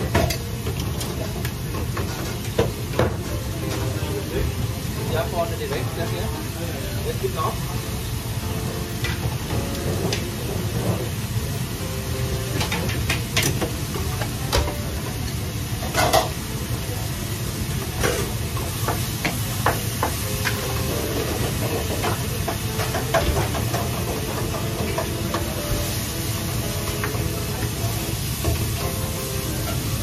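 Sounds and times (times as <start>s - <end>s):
gas burner hiss and hum: 0.0s - 30.0s.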